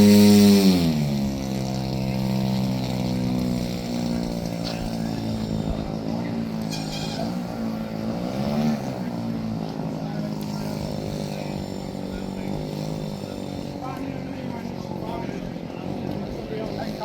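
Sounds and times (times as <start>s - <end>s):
model airplane engine idling: 0.0s - 17.0s.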